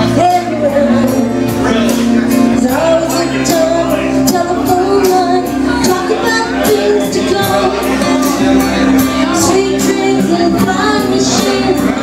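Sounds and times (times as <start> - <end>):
karaoke backing track: 0.0 - 12.0
woman singing into microphone: 0.0 - 12.0.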